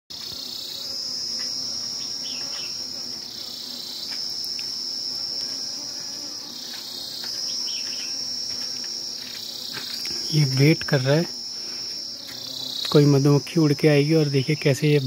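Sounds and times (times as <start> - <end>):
honeybees humming: 0.1 - 15.0
insect high-pitched trill: 0.1 - 15.0.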